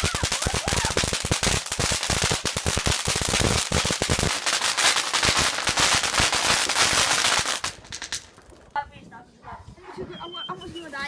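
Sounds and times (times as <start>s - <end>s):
firecrackers popping rapidly: 0.0s - 8.9s.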